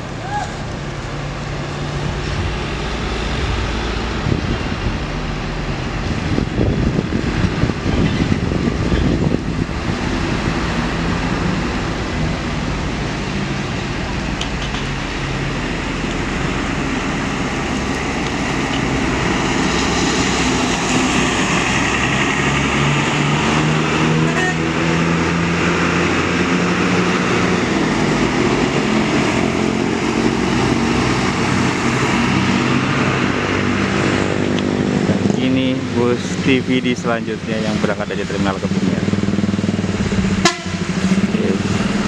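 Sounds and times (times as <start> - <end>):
diesel bus engines: 0.0 - 42.0.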